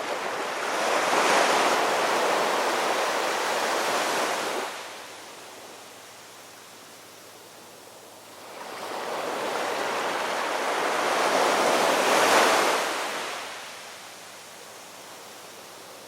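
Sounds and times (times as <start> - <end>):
soft wash of sea: 0.0 - 16.0.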